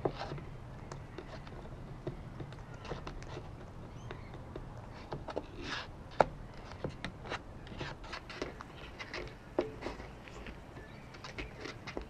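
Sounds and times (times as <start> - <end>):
claws shuffling on wood: 0.0 - 12.0.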